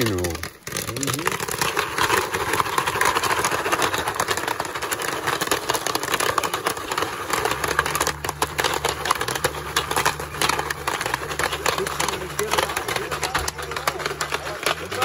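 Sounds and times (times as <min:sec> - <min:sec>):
pan shaking on burner: 0:00.0 - 0:15.0
popcorn kernels popping: 0:00.0 - 0:15.0.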